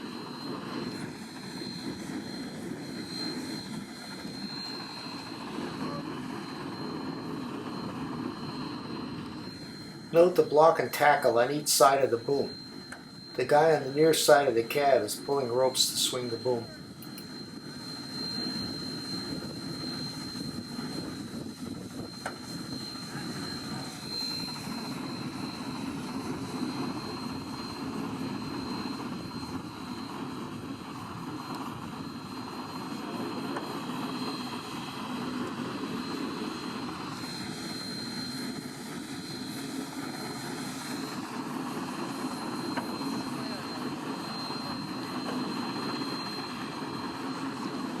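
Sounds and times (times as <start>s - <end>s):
constant high whine: 0.0s - 48.0s
lower whine: 0.0s - 48.0s.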